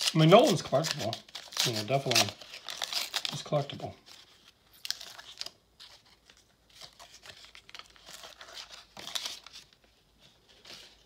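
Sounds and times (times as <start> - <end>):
wrapper crinkling and tearing: 0.0 - 9.9.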